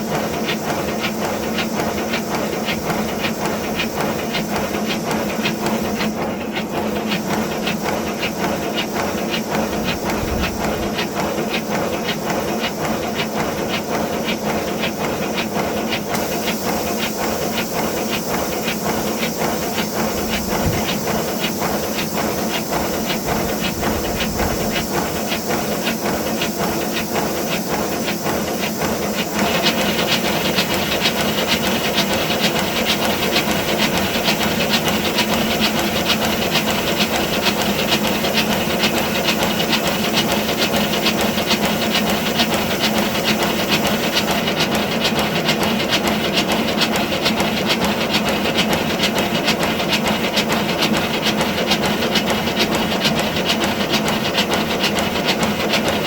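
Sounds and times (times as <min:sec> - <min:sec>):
steam hiss: 0:00.0 - 0:56.0
steam locomotive exhaust beats: 0:00.0 - 0:56.0.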